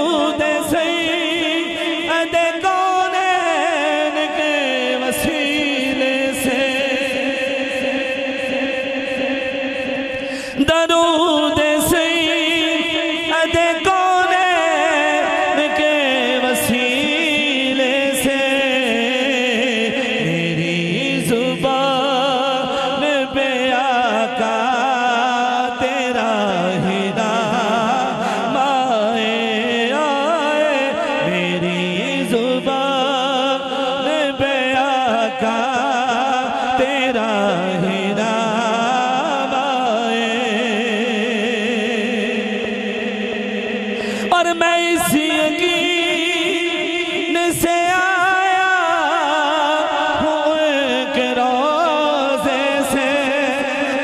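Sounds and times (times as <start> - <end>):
man singing with vibrato: 0.0 - 54.0.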